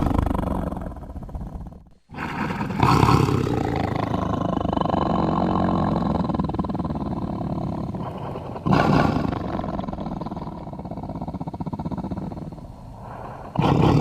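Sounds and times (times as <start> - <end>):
deep rough creature roar: 0.0 - 14.0.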